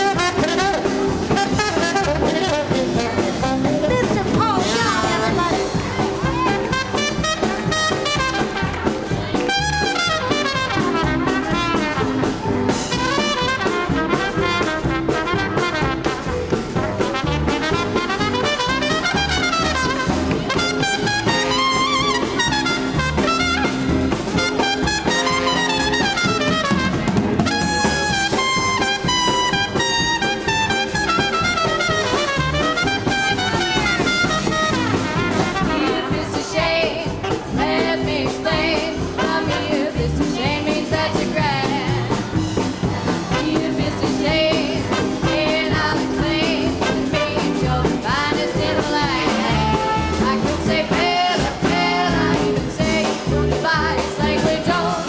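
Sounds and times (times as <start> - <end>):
brass horns: 0.0 - 55.0
drum kit: 0.0 - 55.0
swing band playing: 0.0 - 55.0
walking bass: 0.0 - 55.0.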